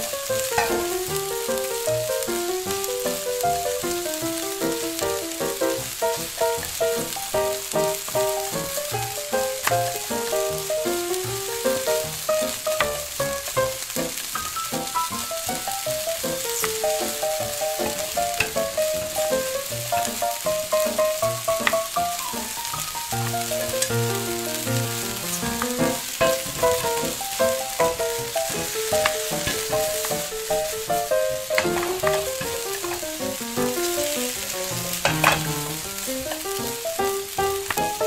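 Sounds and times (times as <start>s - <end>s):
broth sizzling in a saucepan: 0.0s - 38.0s
light instrumental music: 0.0s - 38.0s.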